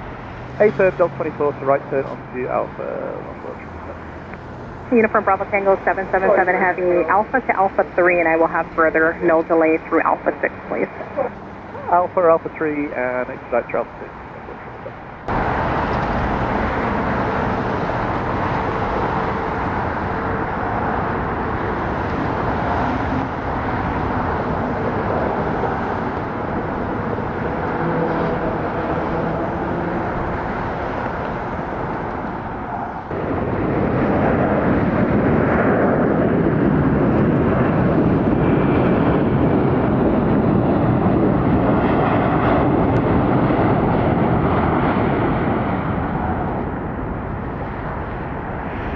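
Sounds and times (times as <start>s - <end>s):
faint engine whine: 0.0s - 48.9s
jet engines rushing: 0.0s - 48.9s.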